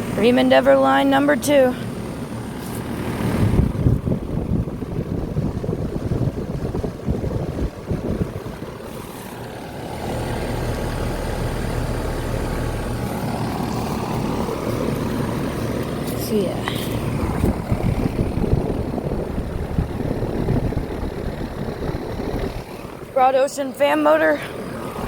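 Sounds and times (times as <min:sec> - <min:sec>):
air conditioner unit humming: 0:00.0 - 0:25.0.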